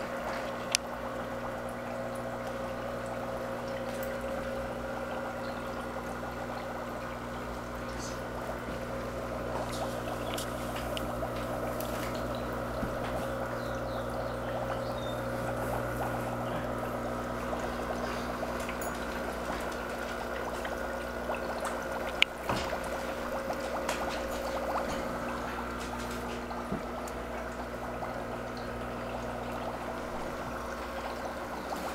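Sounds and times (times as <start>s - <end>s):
filter water pouring into tank: 0.0s - 31.9s
low pump hum: 0.0s - 31.9s.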